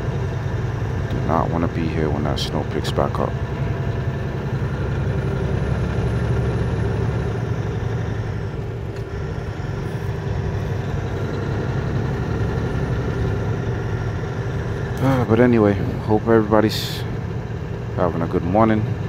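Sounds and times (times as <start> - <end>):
truck engine drone: 0.0 - 19.0
tyre and road noise: 0.0 - 19.0.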